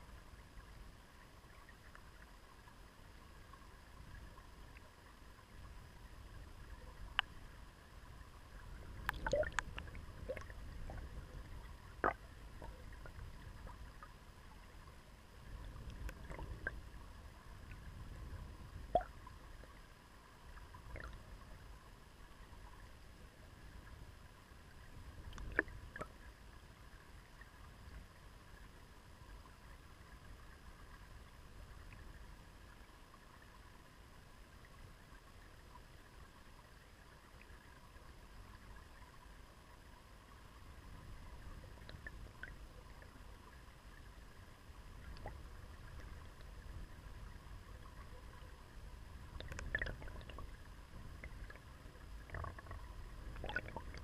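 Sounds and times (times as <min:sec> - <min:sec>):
muffled underwater river rush: 0:00.0 - 0:54.0.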